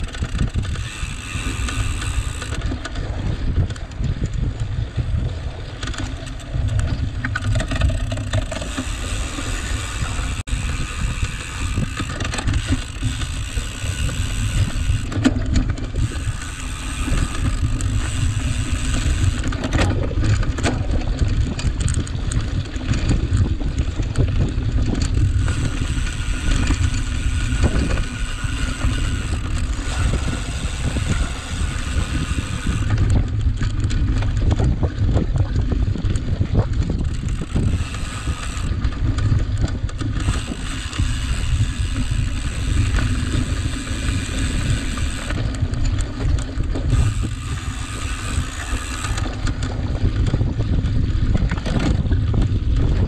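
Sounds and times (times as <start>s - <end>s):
bike frame rattling and clicking: 0.0s - 53.0s
wind rumble on microphone: 0.0s - 53.0s.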